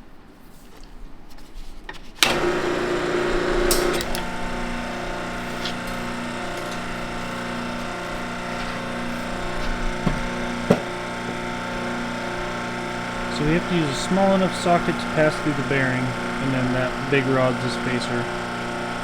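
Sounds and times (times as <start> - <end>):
machine motor humming: 2.2 - 19.0.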